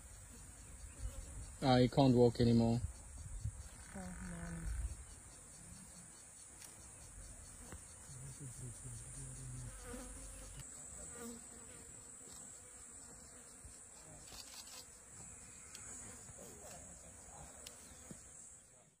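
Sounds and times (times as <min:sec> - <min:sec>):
faint insect drone: 0:00.0 - 0:19.0.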